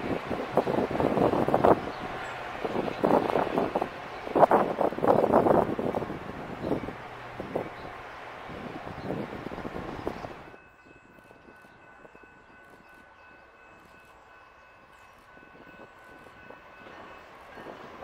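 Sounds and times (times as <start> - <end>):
wind buffeting microphone: 0.0 - 13.1, 15.0 - 18.0
approaching train: 0.0 - 18.0.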